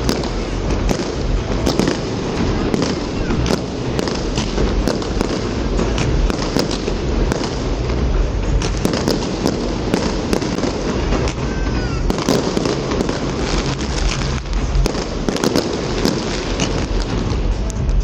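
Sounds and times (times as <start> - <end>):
firework whistle: 0.0 - 17.8
fireworks bangs and crackling: 0.0 - 18.0
low booms: 0.0 - 18.0.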